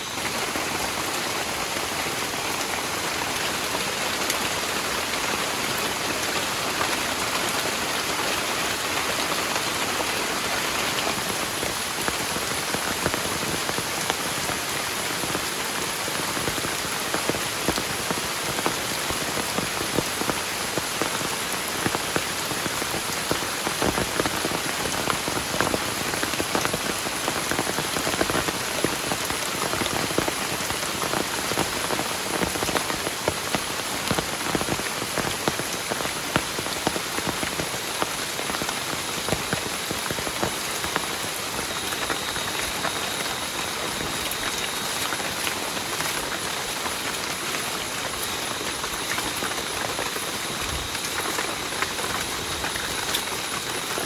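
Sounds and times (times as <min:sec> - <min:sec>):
heavy rain falling: 0:00.0 - 0:54.0
raindrops tapping on a surface: 0:00.0 - 0:54.0.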